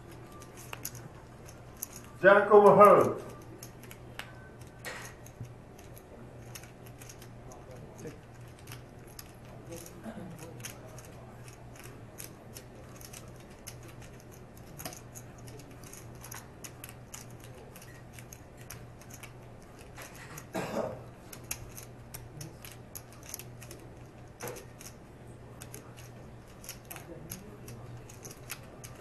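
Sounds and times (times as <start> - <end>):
poker chips clicking: 0.0 - 20.5, 21.3 - 25.0, 25.6 - 29.0
steady low hum: 0.0 - 29.0.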